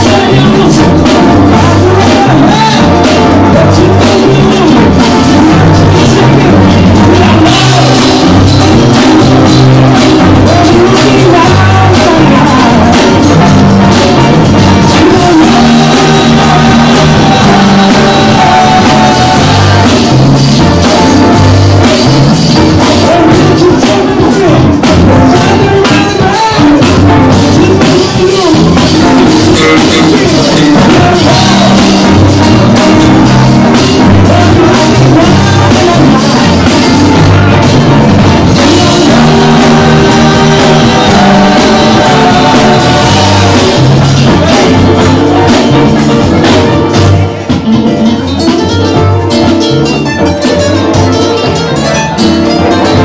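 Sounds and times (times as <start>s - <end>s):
live band playing loud music: 0.0s - 53.0s.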